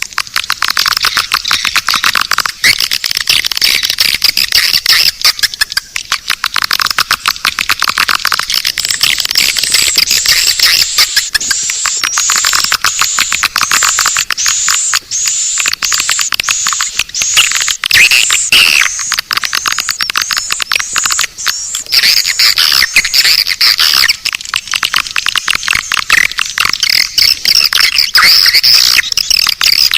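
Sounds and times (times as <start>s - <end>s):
arched chirps: 0.0s - 29.9s
rapid clicking: 0.0s - 29.9s
swiftlet twittering: 0.4s - 29.9s.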